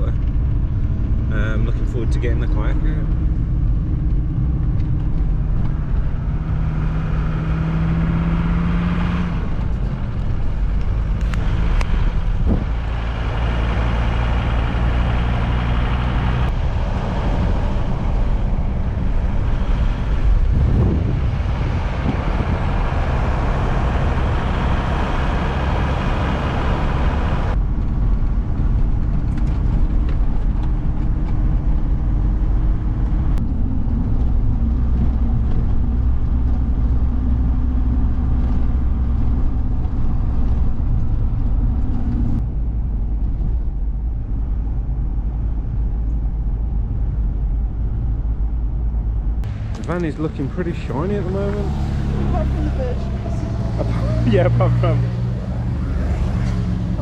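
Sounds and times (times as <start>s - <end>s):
campervan engine: 0.0s - 57.0s
road noise: 0.0s - 57.0s.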